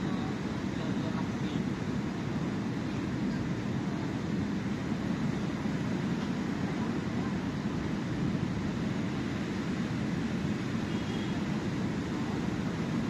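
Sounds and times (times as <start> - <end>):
waves rushing on shore: 0.0 - 13.0.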